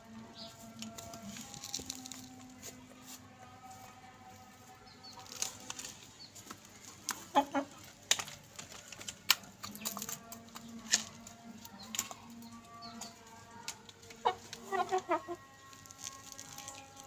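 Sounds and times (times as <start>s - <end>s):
chickens pecking crisp food: 0.3s - 17.0s.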